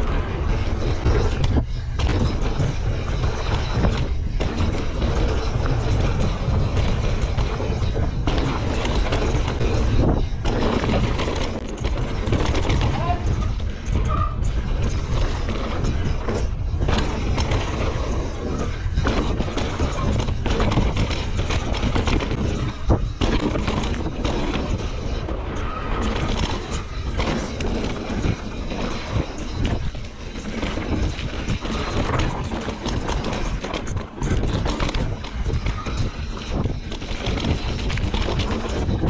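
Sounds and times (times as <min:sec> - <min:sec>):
bike knocking and rattling: 0:00.0 - 0:39.0
bike tyres on dirt trail: 0:00.0 - 0:39.0
wind rumbling on microphone: 0:00.0 - 0:39.0.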